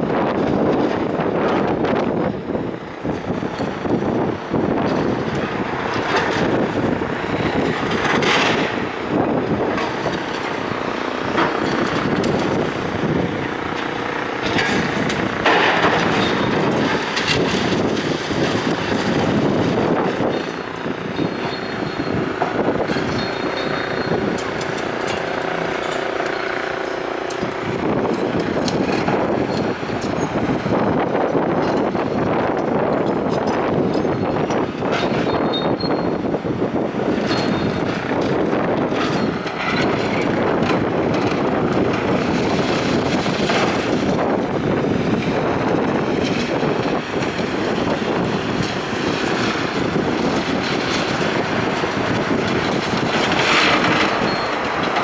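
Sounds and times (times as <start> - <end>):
vehicle engine running: 0.0 - 33.8, 36.2 - 55.0
wind buffeting microphone: 0.0 - 55.0.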